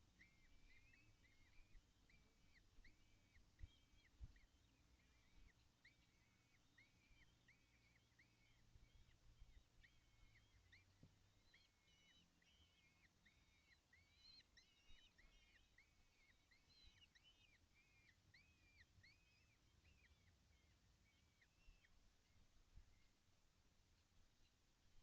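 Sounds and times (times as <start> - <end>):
young kestrels calling: 0.0 - 23.2.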